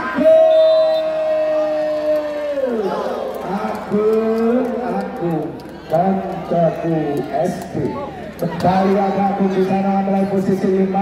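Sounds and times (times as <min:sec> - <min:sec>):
crowd: 0:00.0 - 0:11.0.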